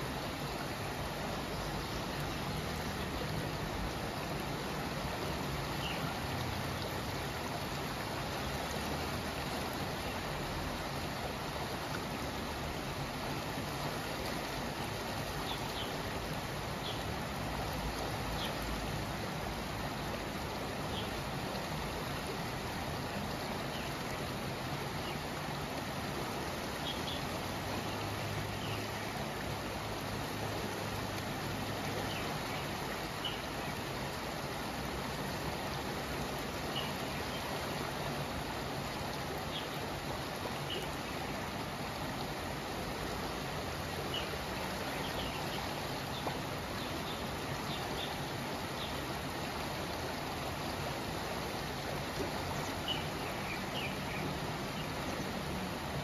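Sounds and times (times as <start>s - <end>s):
river rushing in channel: 0.0s - 56.0s.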